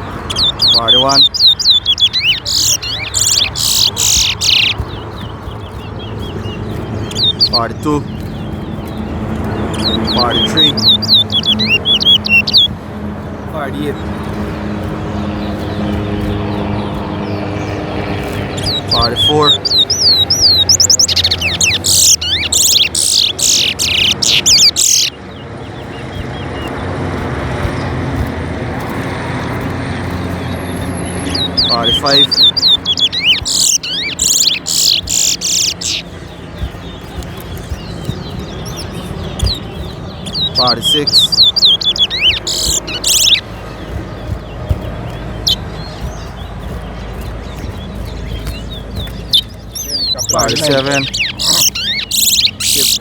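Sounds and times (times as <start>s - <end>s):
faint bird chirps: 0.0s - 9.0s, 9.6s - 12.8s, 15.3s - 26.8s, 30.0s - 53.0s
finch singing whistled song: 0.0s - 12.8s, 13.4s - 53.0s.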